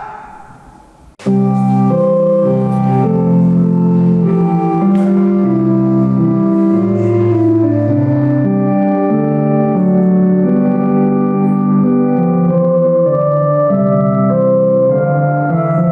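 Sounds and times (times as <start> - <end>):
organ playing sustained chords: 1.3 - 15.9.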